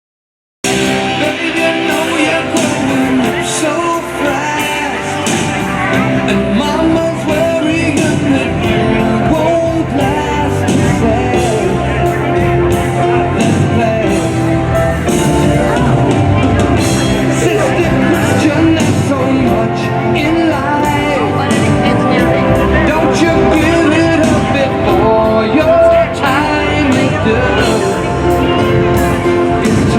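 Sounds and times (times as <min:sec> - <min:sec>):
person singing with instruments: 0:00.7 - 0:29.9.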